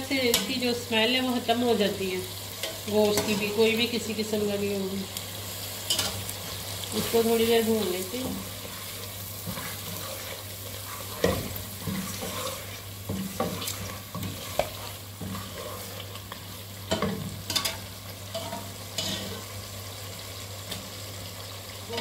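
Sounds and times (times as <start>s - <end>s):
meat sizzling in oil: 0.0s - 22.0s.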